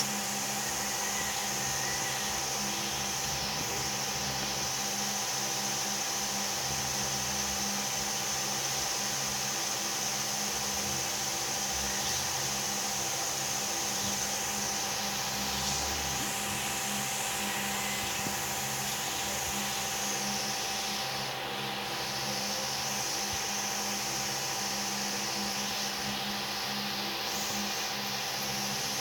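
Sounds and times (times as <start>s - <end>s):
small motor running: 0.0s - 29.0s.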